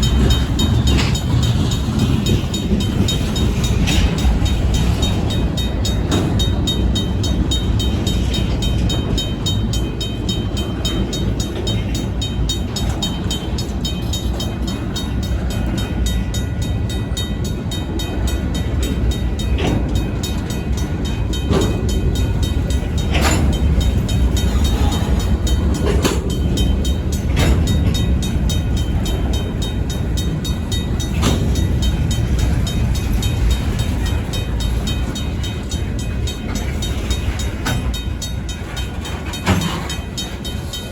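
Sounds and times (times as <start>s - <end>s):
crossing bell ringing: 0.0s - 40.9s
diesel locomotives rumbling: 0.0s - 40.9s
wheels clunking over rails: 0.0s - 40.9s.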